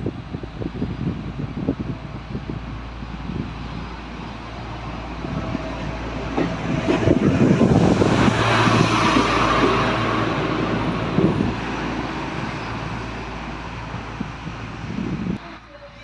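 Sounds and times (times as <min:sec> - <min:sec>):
train approaching on track: 0:00.0 - 0:16.0.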